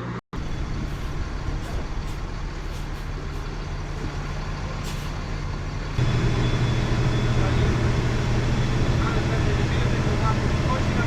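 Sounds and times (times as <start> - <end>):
bus engine humming: 0.0 - 11.0
road noise: 0.0 - 11.0.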